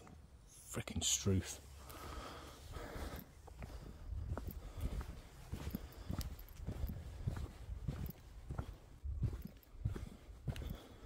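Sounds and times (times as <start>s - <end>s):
footsteps on woodland path: 1.8s - 11.0s.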